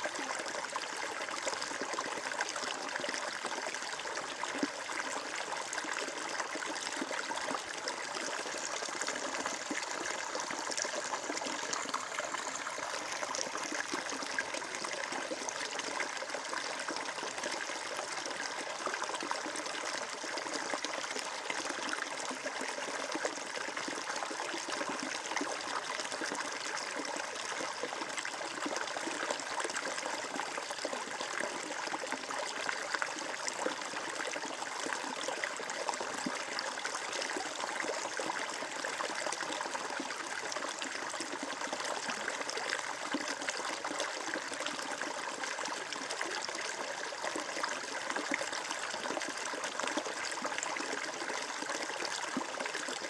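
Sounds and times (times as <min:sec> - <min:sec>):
water flowing and trickling: 0:00.0 - 0:53.0.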